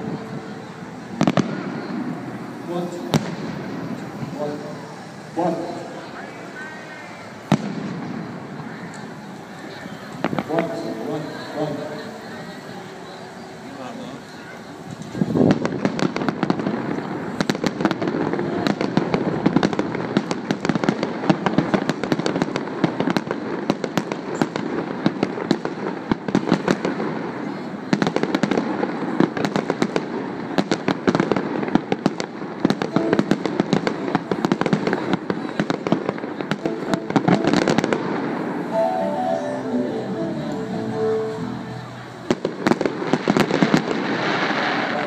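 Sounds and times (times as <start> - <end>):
fireworks bangs and crackles: 0.0 - 13.2, 14.6 - 45.0.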